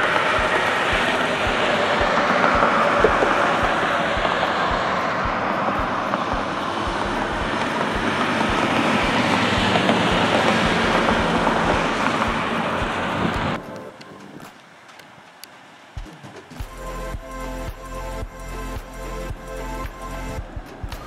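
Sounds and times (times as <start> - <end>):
vehicle rumbling: 0.0 - 21.0.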